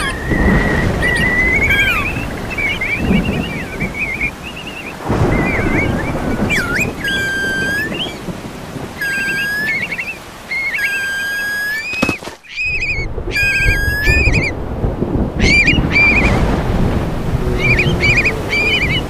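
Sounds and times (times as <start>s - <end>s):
high whistled calls: 0.0s - 8.4s, 9.0s - 14.6s, 15.4s - 16.5s, 17.4s - 19.0s
sharp thunder crack: 0.0s - 9.9s, 12.6s - 19.0s
thunder rumble: 0.0s - 11.5s, 12.6s - 19.0s
rain: 0.0s - 19.0s.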